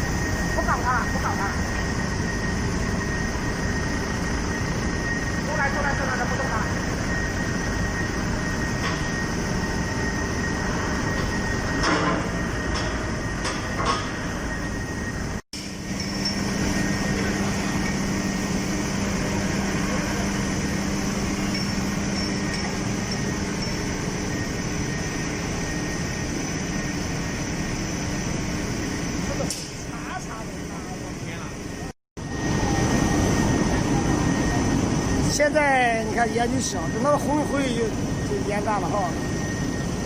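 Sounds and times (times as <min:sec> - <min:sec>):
industrial furnace running: 0:00.0 - 0:40.0.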